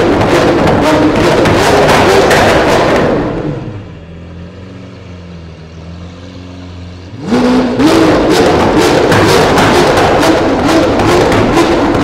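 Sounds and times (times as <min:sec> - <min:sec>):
sports car engine idling: 0:00.0 - 0:06.0, 0:06.7 - 0:12.0
loud engine sound: 0:00.0 - 0:12.0.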